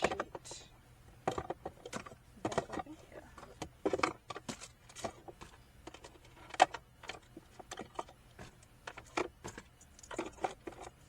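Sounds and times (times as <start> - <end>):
small items clicking and knocking: 1.2 - 11.0.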